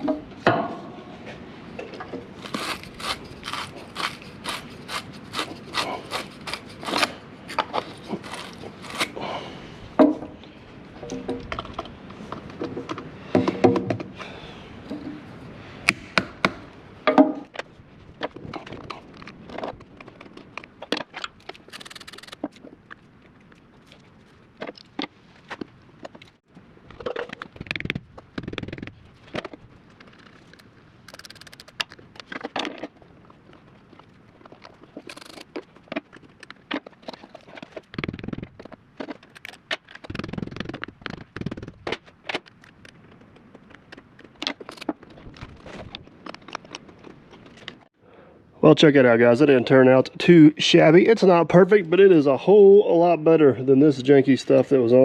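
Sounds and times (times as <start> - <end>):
hand tools clicking and scraping: 0.0 - 9.4, 11.0 - 47.9.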